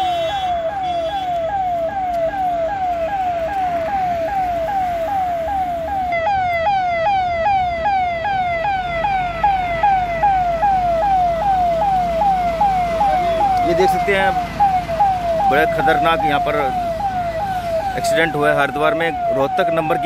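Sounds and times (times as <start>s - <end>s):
emergency siren yelping: 0.0s - 20.0s
higher siren: 0.0s - 20.0s
truck engine rumble: 0.0s - 20.0s.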